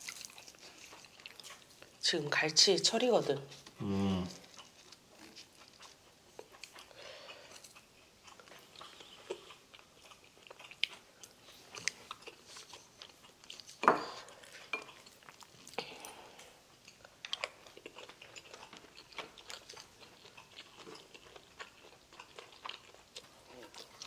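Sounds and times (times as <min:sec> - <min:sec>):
soft chewing: 0:00.0 - 0:24.0.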